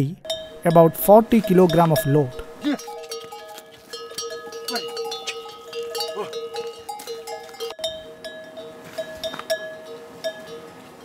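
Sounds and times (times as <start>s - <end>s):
metal neck bells clinking: 0.3s - 11.0s.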